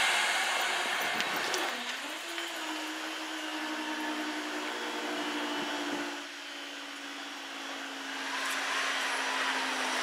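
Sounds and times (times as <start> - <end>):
level crossing barrier whirring: 0.0 - 10.0.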